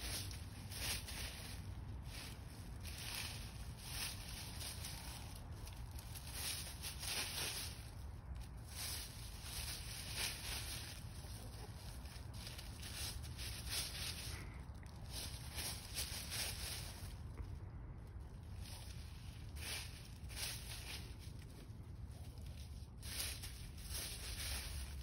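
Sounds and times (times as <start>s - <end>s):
hens scratching in dry leaves: 0.0s - 25.0s
low rumble: 0.0s - 25.0s.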